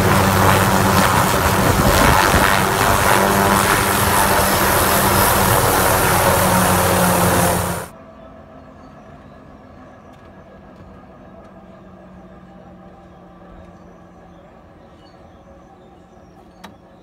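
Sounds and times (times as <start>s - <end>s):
helicopter turbine and rotor: 0.0s - 14.8s.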